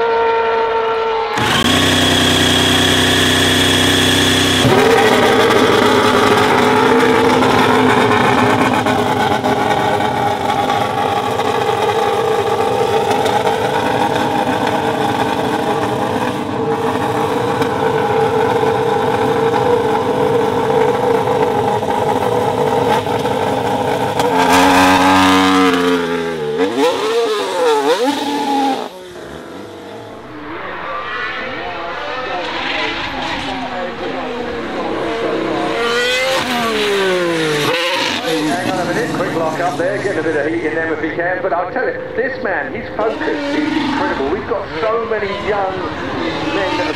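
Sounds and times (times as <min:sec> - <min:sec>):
racing car engine idling and revving: 0:00.0 - 0:46.9.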